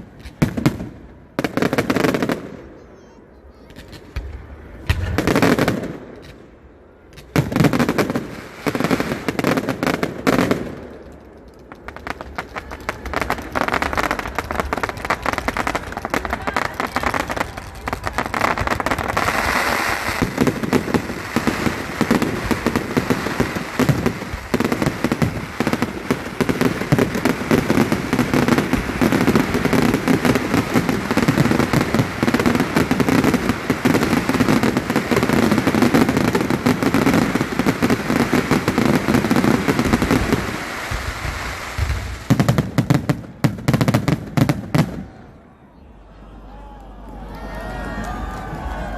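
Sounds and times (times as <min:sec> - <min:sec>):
fireworks bangs and crackles: 0:00.0 - 0:45.4.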